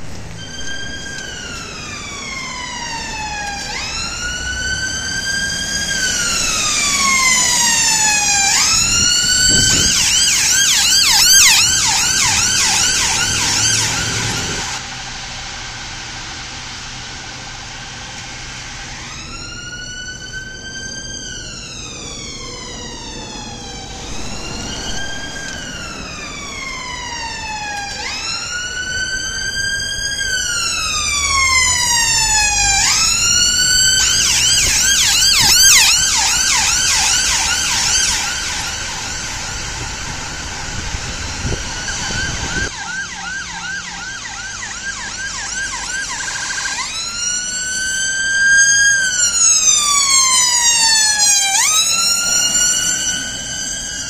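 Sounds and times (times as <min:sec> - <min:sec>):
ambulance siren wailing and yelping: 0:00.0 - 0:14.8, 0:18.8 - 0:54.0.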